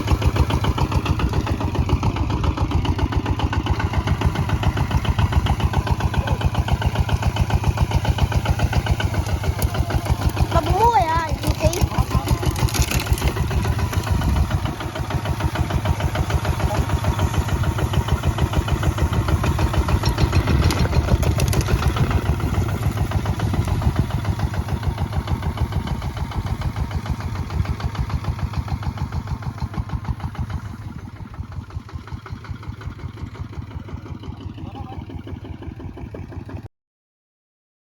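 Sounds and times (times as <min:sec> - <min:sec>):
diesel engine running: 0:00.0 - 0:36.7.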